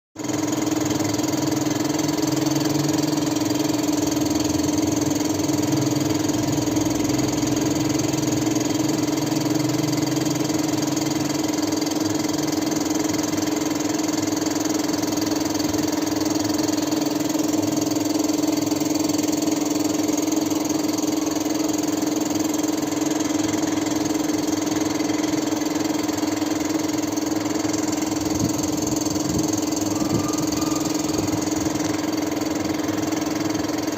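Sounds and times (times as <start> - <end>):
machine humming: 0.2 - 33.9.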